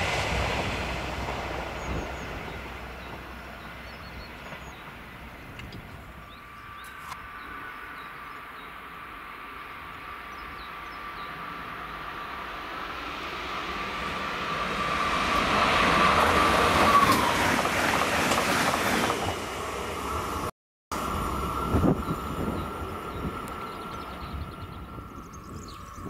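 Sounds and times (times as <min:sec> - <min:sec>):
high whine of train: 0:00.0 - 0:26.0
train passing: 0:00.0 - 0:26.0.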